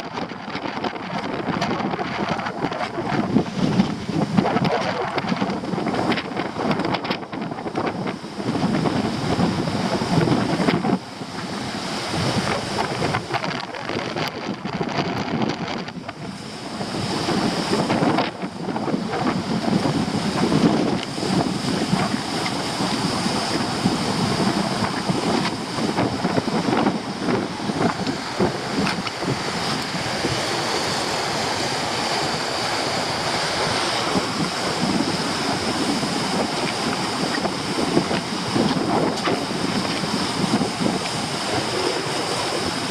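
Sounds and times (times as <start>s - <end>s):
sea surf breaking: 0.0s - 42.9s
wind buffeting microphone: 0.0s - 42.9s.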